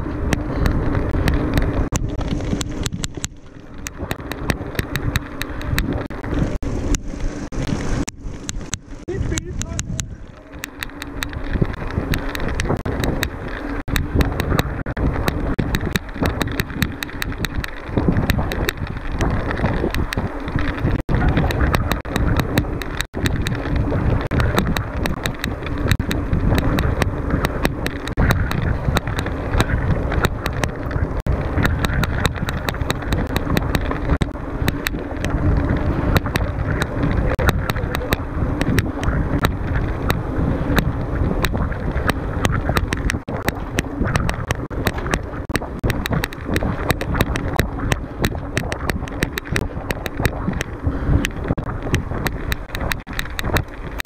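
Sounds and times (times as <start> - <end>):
bike rattling clicks: 0.0 - 54.0
bike tyres on rough trail: 0.0 - 54.0
wind buffeting microphone: 0.0 - 54.0.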